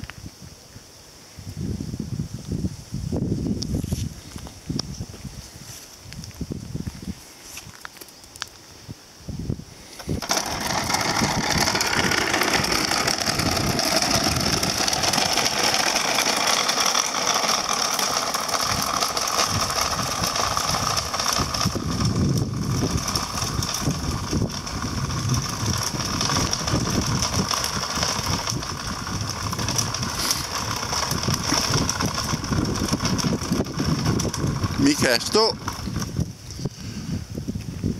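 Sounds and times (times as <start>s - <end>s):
wheels rolling on gritty road: 3.4s - 8.7s, 9.7s - 37.9s.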